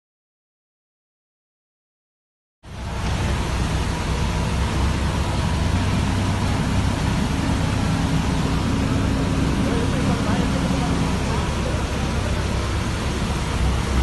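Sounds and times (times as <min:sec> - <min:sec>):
heavy engine rumbling: 0:02.6 - 0:14.0.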